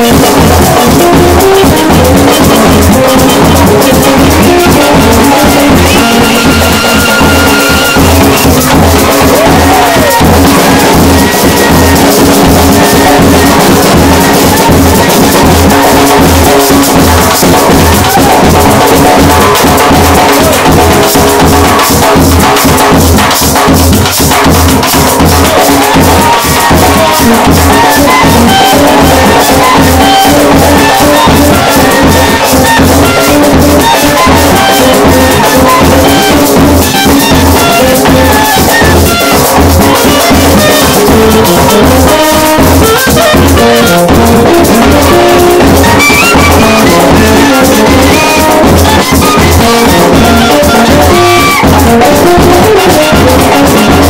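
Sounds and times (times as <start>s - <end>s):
bass drum beat: 0.0s - 54.0s
cowbell: 0.0s - 54.0s
snare drum: 0.0s - 54.0s.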